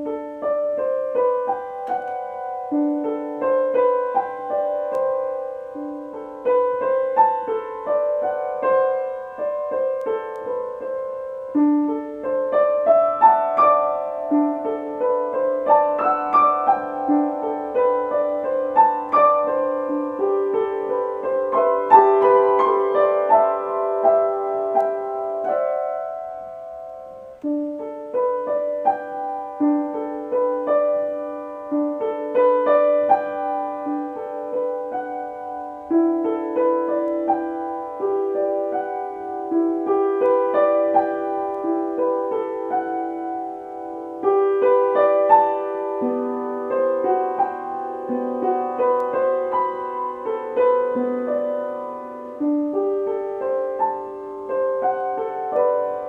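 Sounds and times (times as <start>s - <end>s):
gentle solo piano: 0.0s - 56.0s.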